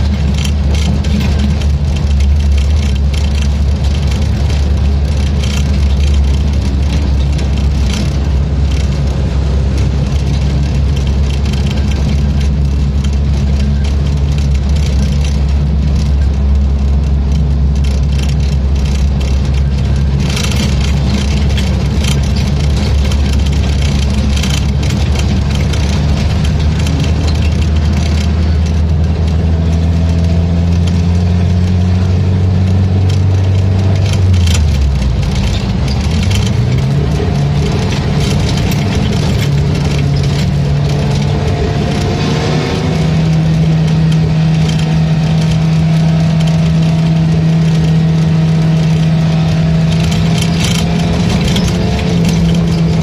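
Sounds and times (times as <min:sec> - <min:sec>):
race car engine running hard: 0:00.0 - 0:53.0.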